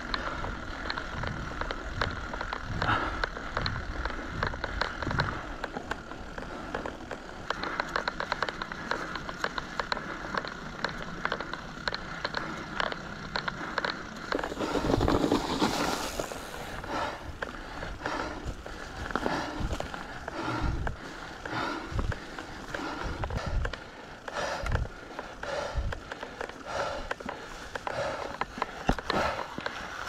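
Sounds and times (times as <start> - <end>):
bike clicking and rattling: 0.0 - 30.0
bike tyres crackling over gravel: 0.0 - 30.0.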